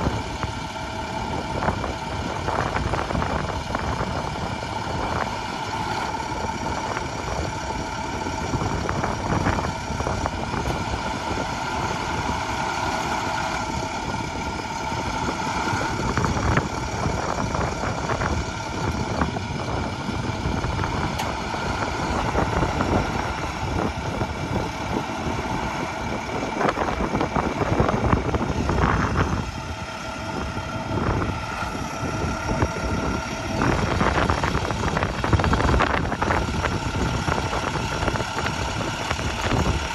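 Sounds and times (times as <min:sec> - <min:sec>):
high steady whine: 0:00.0 - 0:39.9
truck engine running: 0:00.0 - 0:39.9.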